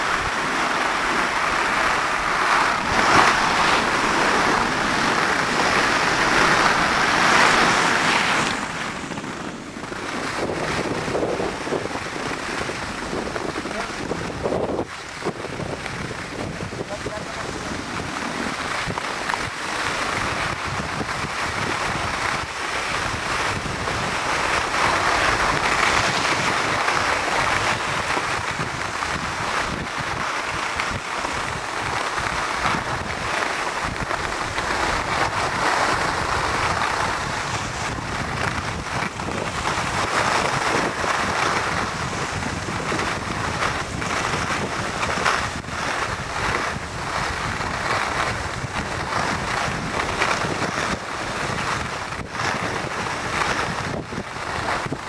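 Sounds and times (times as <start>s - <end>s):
skis sliding over snow: 0.0s - 55.0s
wind buffeting microphone: 0.0s - 55.0s.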